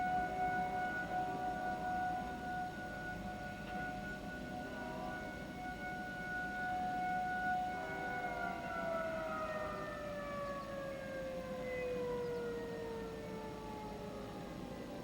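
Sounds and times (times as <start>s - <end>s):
civil defense sirens winding down: 0.0s - 15.0s.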